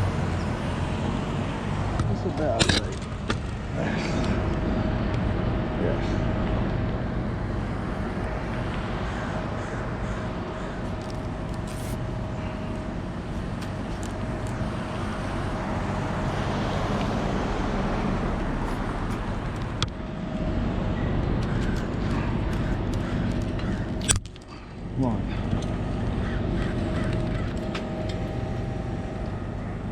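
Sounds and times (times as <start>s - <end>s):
faint steady whine: 0.0s - 29.9s
truck engine running: 0.0s - 29.9s.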